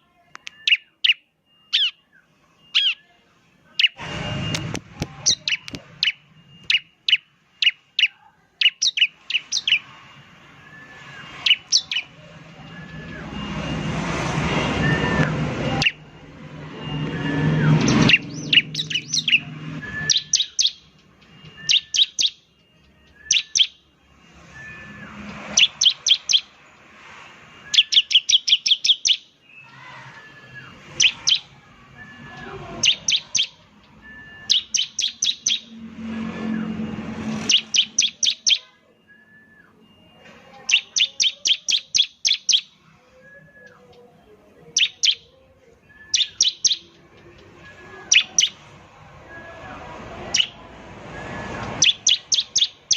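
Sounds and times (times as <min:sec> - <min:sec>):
bird singing sharp repeated notes: 0:00.0 - 0:52.9.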